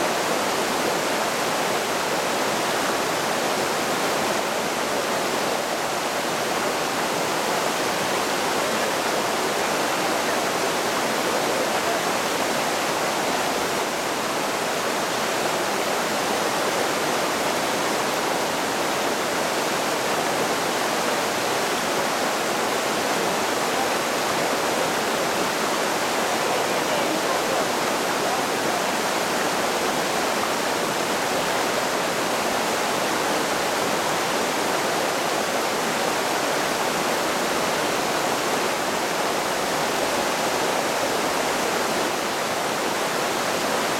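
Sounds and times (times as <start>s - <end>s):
creek rushing over boulders: 0.0s - 43.9s.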